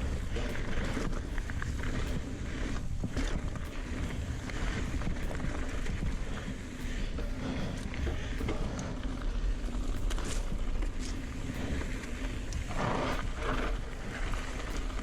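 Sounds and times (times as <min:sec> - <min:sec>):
bike rattling: 0:00.0 - 0:15.0
bike tyres rolling over dirt: 0:00.0 - 0:15.0
wind rumble on microphone: 0:00.0 - 0:15.0.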